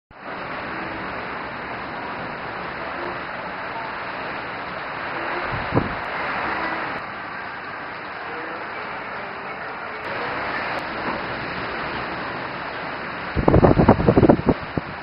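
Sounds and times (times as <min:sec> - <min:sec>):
rain and wind: 0:00.1 - 0:15.0.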